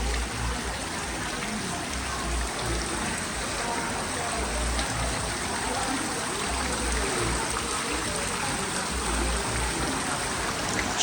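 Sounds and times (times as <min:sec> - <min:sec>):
faint music: 0:00.0 - 0:11.0
fountain water splashing: 0:00.0 - 0:11.0.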